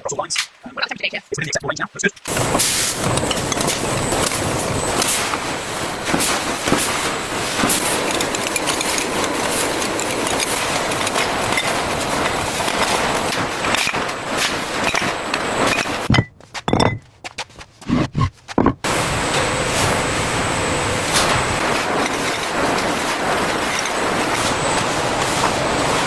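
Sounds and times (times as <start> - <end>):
factory machinery clattering: 2.2 - 17.0, 18.8 - 26.0.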